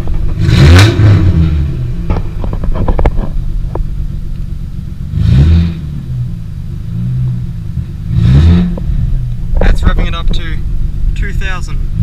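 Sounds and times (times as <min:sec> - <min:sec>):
loud car engine idling and revving: 0:00.0 - 0:12.0.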